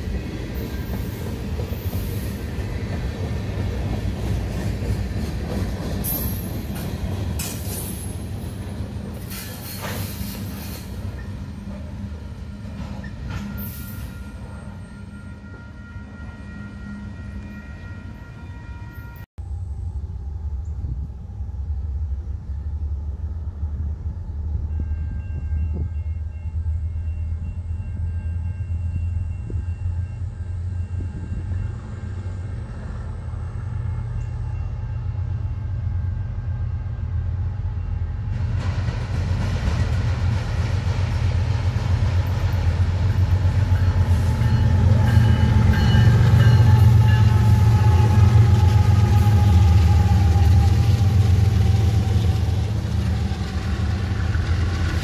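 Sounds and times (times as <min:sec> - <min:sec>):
diesel freight train passing: 0:00.0 - 0:55.0.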